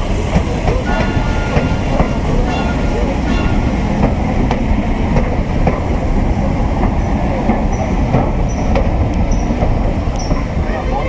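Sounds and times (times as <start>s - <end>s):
train rumbling on track: 0.0s - 11.0s
wheels clicking over rail joints: 0.0s - 11.0s.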